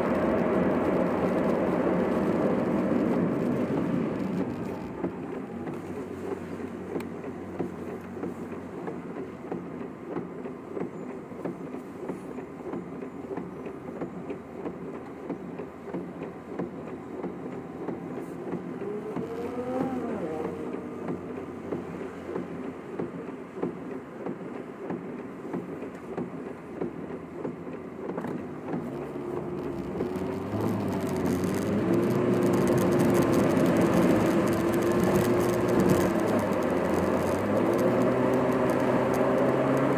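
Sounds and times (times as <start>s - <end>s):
car engine from inside cabin: 0.0s - 39.9s
road noise: 0.0s - 39.9s.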